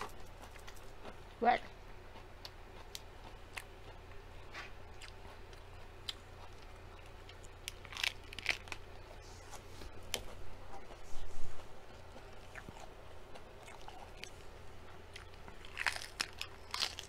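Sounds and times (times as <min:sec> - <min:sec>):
steady low hum: 0:00.0 - 0:17.0
crunching lettuce: 0:02.4 - 0:17.0.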